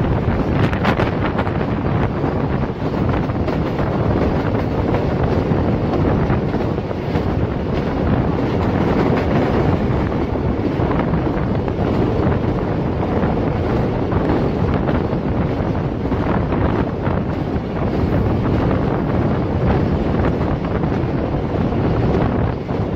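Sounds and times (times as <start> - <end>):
passenger train rumbling: 0.0 - 22.9
wind on microphone: 0.0 - 22.9.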